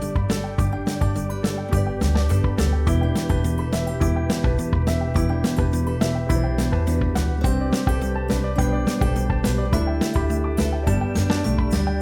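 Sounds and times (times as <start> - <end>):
background music with keyboard and bass: 0.0 - 12.0.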